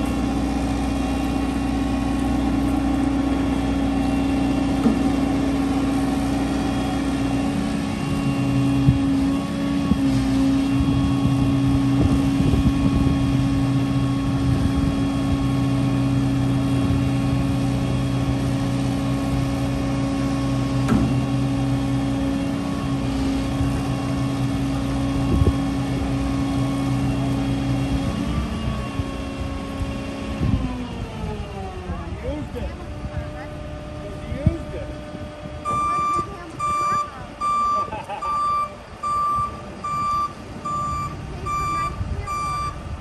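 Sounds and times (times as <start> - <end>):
deep drone: 0.0 - 43.0
travel lift engine running: 0.0 - 43.0.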